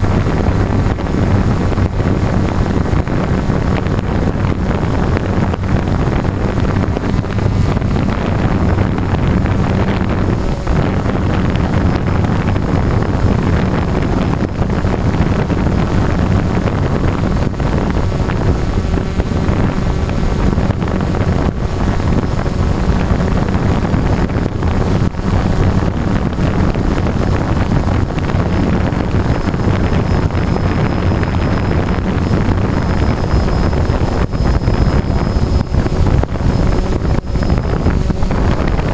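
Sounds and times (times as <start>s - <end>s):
drone propellers buzzing: 0.0s - 38.9s
wind buffeting microphone: 0.0s - 38.9s.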